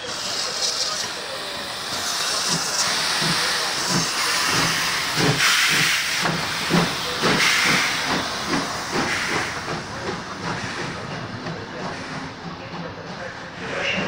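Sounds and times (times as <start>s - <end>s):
steam exhaust beats: 0.0s - 14.0s
steam locomotive hissing: 0.0s - 14.0s.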